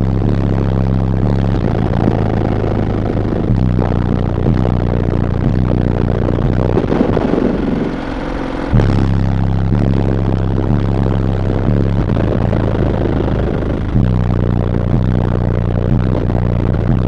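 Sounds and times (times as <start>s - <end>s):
bass-heavy music through subwoofers: 0.0s - 17.0s.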